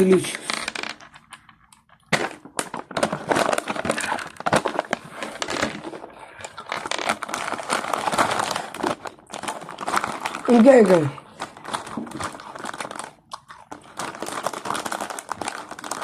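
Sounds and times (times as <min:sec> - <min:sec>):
cookie crunching being chewed: 0:03.2 - 0:16.0.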